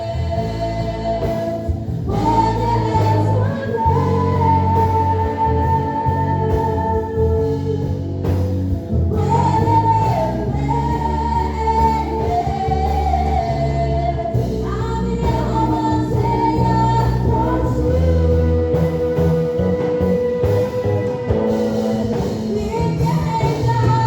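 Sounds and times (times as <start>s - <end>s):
person singing gospel melody: 0.0s - 24.0s
sustained instrumental accompaniment: 0.0s - 24.0s.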